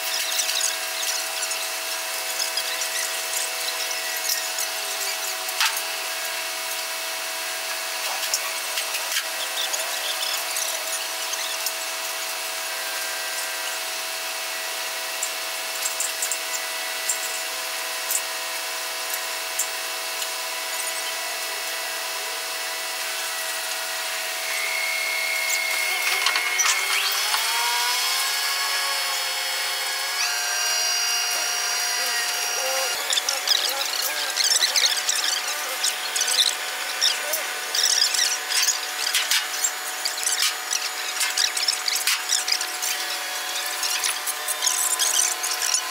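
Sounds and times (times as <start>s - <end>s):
construction machinery whine: 0.0s - 45.9s.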